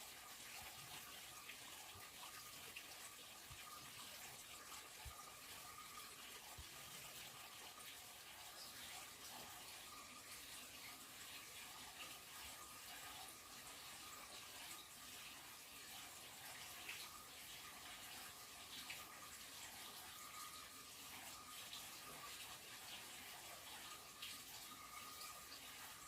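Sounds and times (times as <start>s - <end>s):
faint running water: 0.0s - 26.0s.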